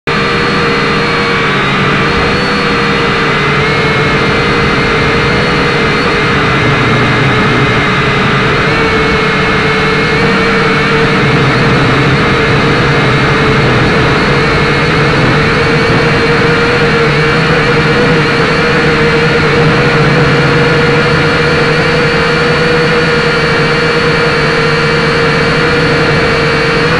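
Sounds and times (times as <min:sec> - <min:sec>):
drone motors whining: 0:00.1 - 0:26.9.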